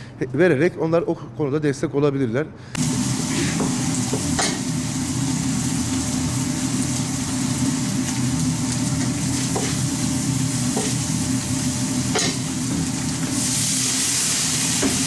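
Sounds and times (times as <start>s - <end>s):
meat sizzling on griddle: 2.8s - 15.0s.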